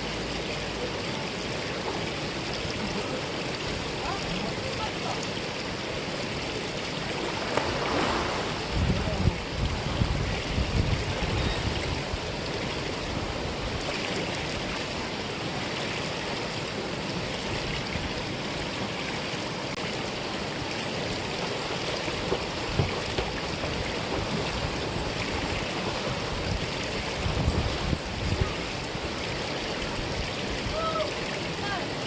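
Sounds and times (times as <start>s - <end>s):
stream flowing: 0.0s - 32.0s.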